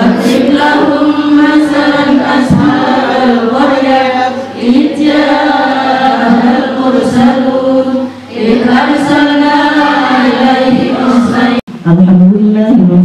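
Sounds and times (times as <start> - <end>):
women chanting in unison: 0.0 - 11.7.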